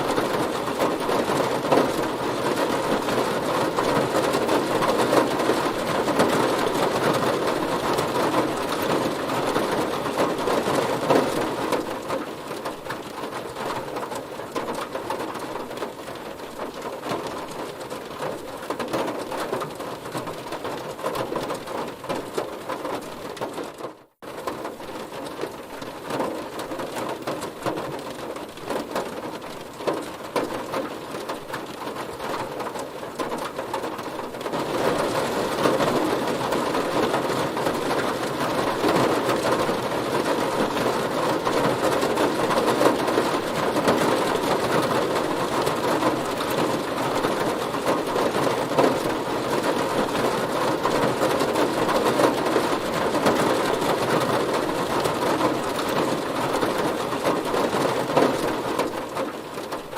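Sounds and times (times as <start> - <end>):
heavy rain on a car body: 0.0 - 59.9.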